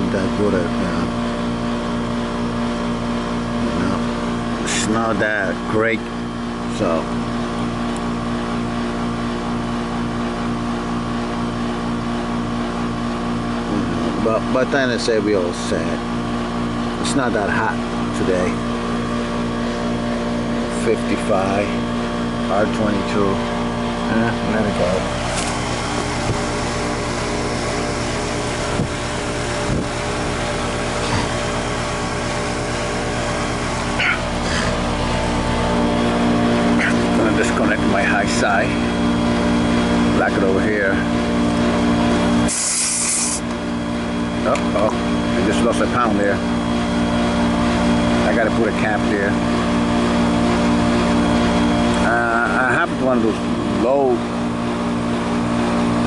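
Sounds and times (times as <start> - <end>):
air conditioner unit humming: 0.0 - 56.0
outdoor fan blowing: 0.0 - 56.0.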